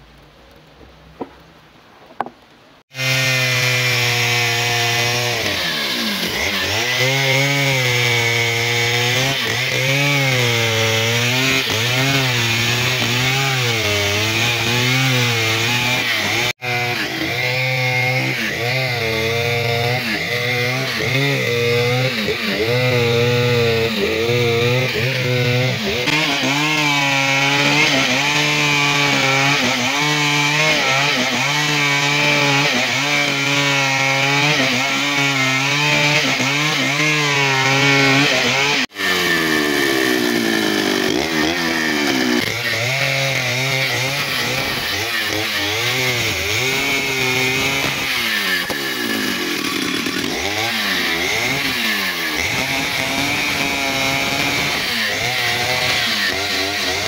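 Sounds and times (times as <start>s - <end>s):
chainsaw cutting a log: 2.9s - 57.0s.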